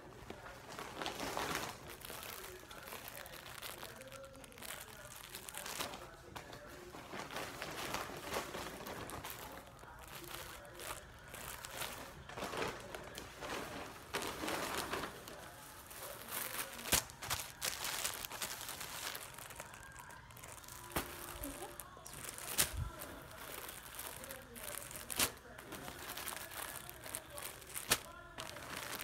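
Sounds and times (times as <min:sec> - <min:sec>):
plastic bags crinkling: 0:00.0 - 0:29.0.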